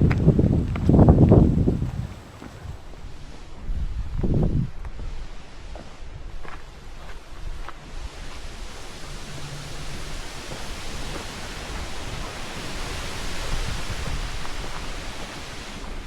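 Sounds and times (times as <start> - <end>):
wind rumbling on microphone: 0.0 - 16.0
wind rushing through trees: 0.0 - 16.0.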